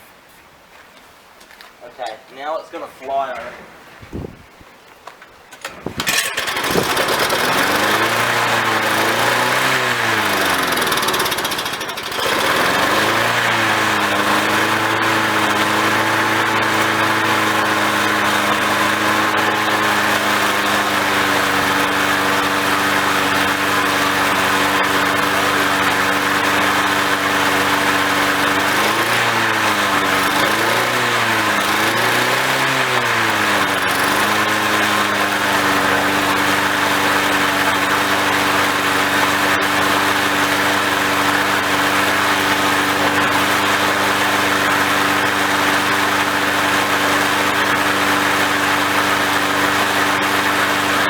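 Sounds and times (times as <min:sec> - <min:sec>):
lawnmower engine running: 0:05.5 - 0:51.0.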